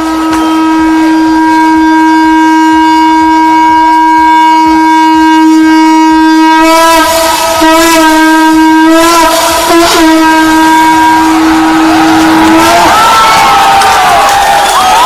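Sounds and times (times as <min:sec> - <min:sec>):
conch shell blown: 0:00.0 - 0:15.0.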